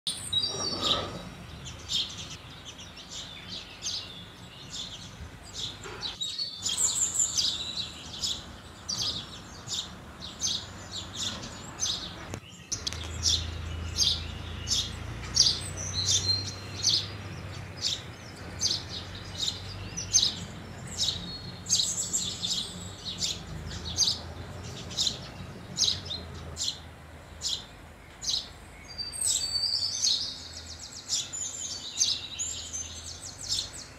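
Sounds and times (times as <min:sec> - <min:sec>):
sparrows chirping: 0:00.1 - 0:33.9.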